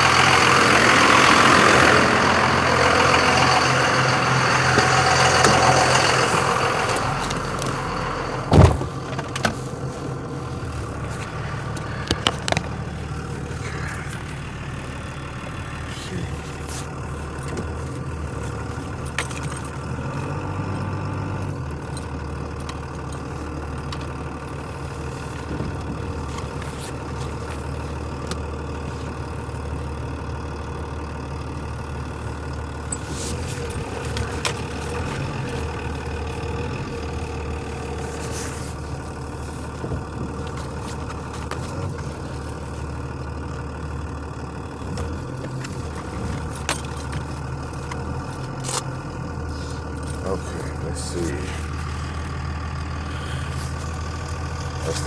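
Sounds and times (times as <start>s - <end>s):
vehicle engine idling: 0.0s - 55.0s.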